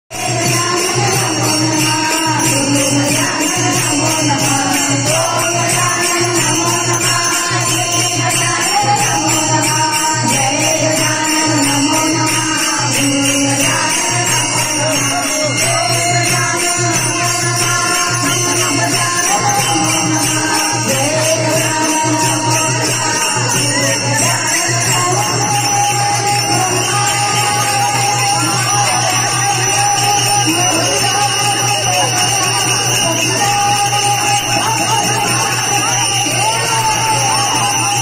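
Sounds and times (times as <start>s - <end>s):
brass hand cymbals clashing: 0.1s - 38.0s
women singing in unison: 0.1s - 38.0s.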